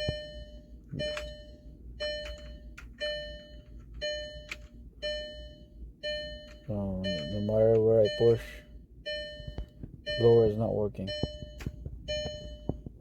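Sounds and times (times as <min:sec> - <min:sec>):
car warning chime: 0:00.0 - 0:12.8.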